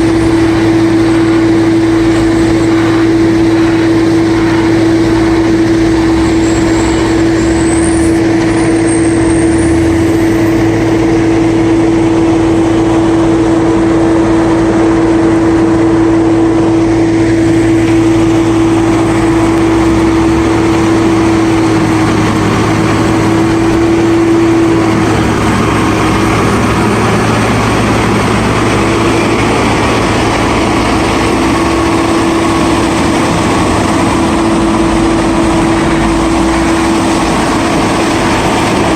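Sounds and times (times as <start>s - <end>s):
diesel machine engine with whine: 0.0s - 38.9s.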